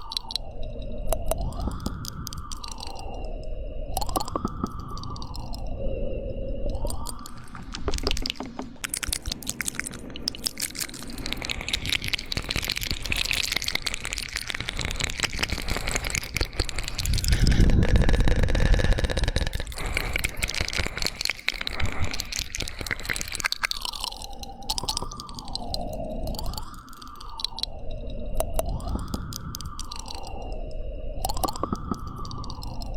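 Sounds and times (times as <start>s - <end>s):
wet mouth sounds: 0.0s - 0.4s, 1.1s - 3.3s, 3.9s - 5.7s, 6.7s - 27.8s, 28.4s - 30.6s, 31.2s - 32.9s.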